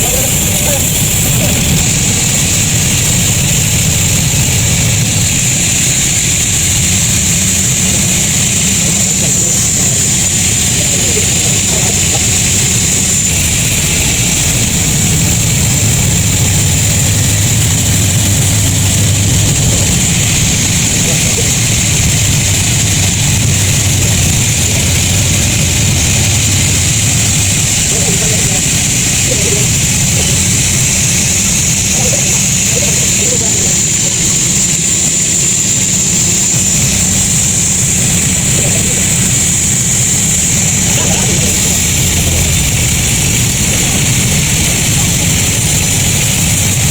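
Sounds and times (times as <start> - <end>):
high even whine: 0.0 - 46.9
low motor hum: 0.0 - 46.9
sawmill machinery low drone: 0.0 - 46.9.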